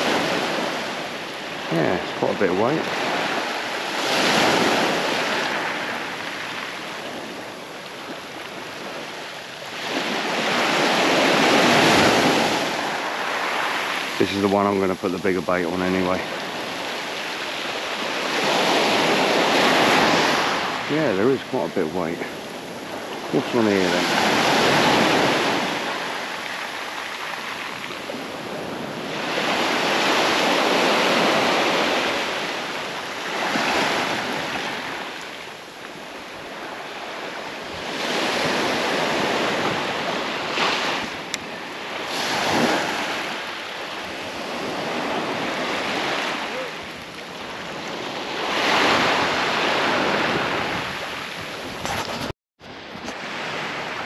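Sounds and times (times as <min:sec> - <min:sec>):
surf breaking on the shore: 0:00.0 - 0:54.0.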